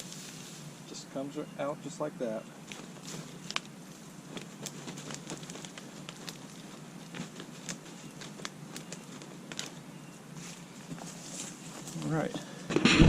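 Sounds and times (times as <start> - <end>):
grass clippings rustling and crackling: 0.0 - 12.7.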